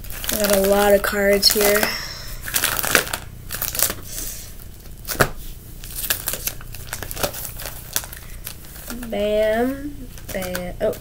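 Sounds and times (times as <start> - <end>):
plastic sleeves crinkling: 0.0 - 11.0.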